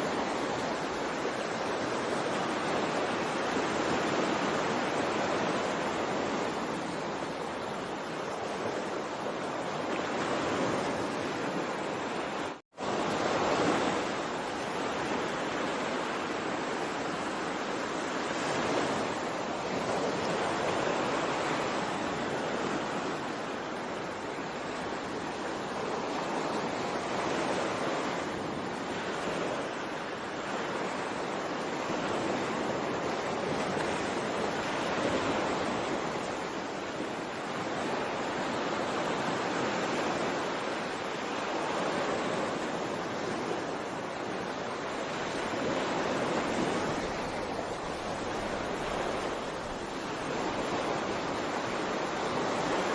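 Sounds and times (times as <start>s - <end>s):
ocean waves washing in: 0.0s - 52.9s.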